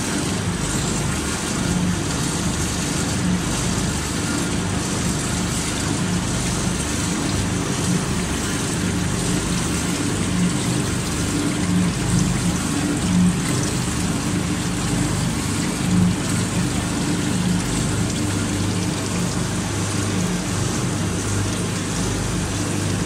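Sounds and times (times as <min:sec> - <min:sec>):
low drive hum: 0:00.0 - 0:23.0
separator machine running: 0:00.0 - 0:23.0.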